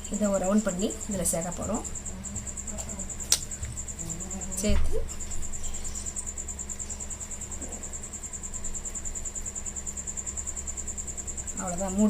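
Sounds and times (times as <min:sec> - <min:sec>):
cricket trilling: 0:00.0 - 0:12.0
low steady hum: 0:00.0 - 0:12.0.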